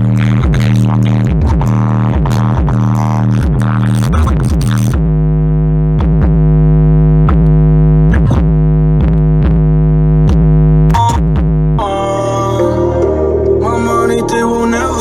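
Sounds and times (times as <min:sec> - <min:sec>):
bass-heavy electronic music: 0:00.0 - 0:15.0.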